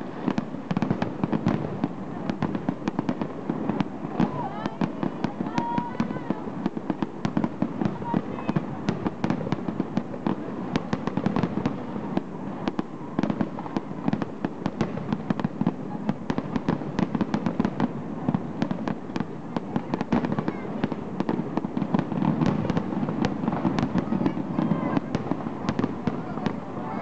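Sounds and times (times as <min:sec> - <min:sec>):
fireworks popping and crackling: 0:00.0 - 0:27.0.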